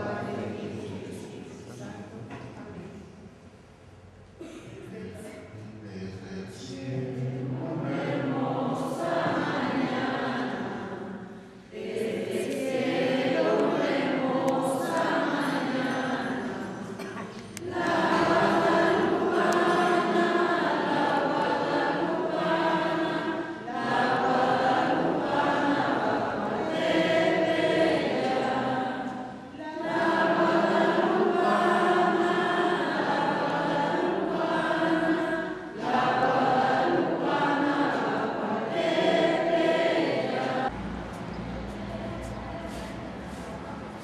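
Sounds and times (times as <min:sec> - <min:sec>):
congregation singing a hymn: 0:00.0 - 0:02.4, 0:05.6 - 0:44.0.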